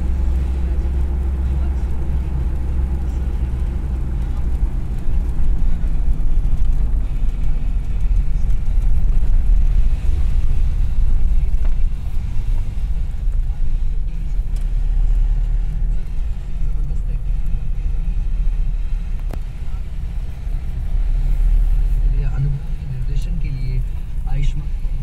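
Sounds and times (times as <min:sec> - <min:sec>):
car driving rumble inside cabin: 0:00.0 - 0:25.0.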